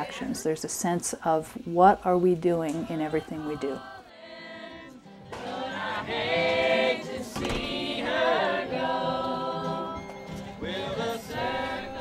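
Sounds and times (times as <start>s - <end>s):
group singing: 0.0s - 0.6s, 2.6s - 12.0s.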